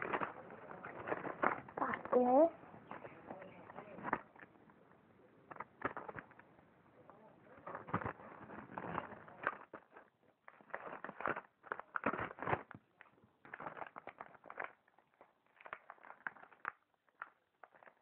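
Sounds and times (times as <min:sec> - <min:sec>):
cardboard and plastic packaging rustling: 0:00.0 - 0:04.5, 0:05.5 - 0:06.4, 0:07.5 - 0:18.0.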